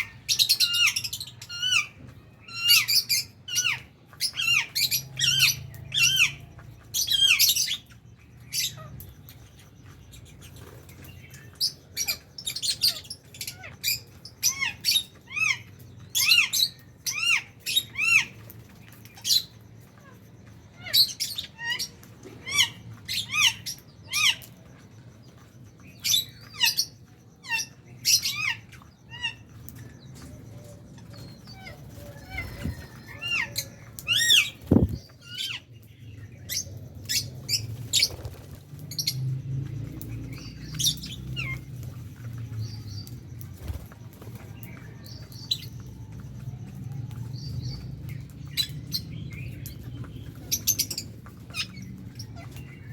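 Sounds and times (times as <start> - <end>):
lovebirds chirping: 0.0 - 52.9.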